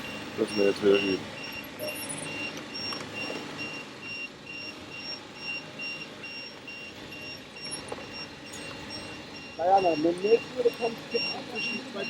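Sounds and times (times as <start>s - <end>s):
low motor rumble: 0.0s - 12.0s
short high reversing beeps: 0.0s - 12.0s.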